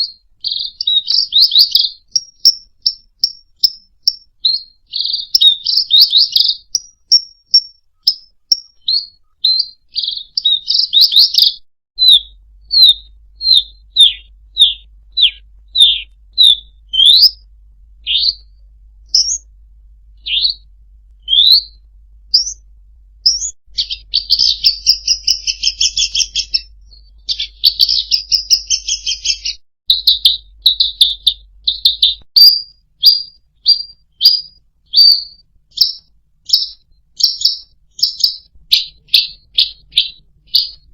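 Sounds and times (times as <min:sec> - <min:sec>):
songbird whistling: 0:00.0 - 0:19.5, 0:20.2 - 0:40.9
bird rattling trill: 0:00.4 - 0:17.4, 0:23.2 - 0:26.7, 0:27.3 - 0:40.8.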